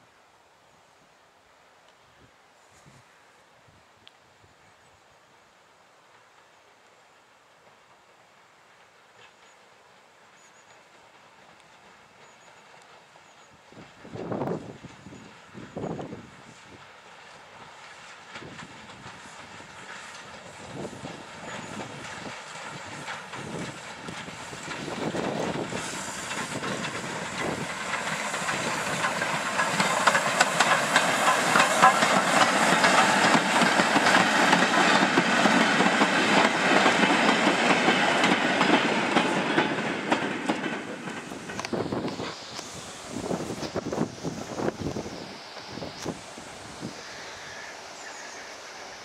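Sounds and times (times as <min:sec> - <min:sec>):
train wheels rattling on rails: 0:07.5 - 0:49.0
steam locomotive exhaust beats: 0:08.7 - 0:49.0.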